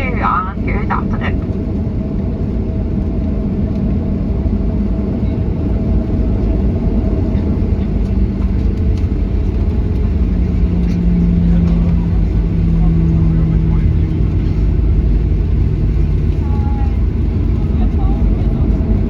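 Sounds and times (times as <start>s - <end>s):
airplane cabin rumble: 0.0s - 19.0s
low hum: 0.0s - 19.0s.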